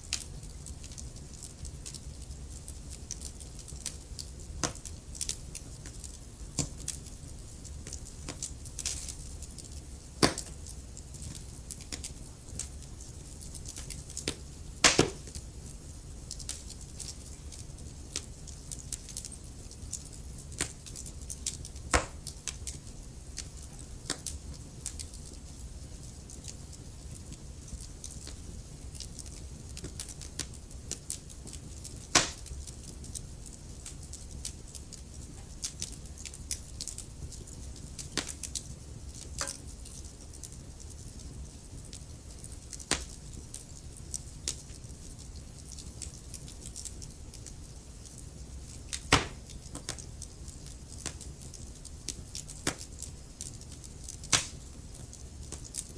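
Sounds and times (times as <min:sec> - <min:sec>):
logs crackling in a fireplace: 0:00.0 - 0:55.9
low rumble of flames: 0:00.0 - 0:55.9.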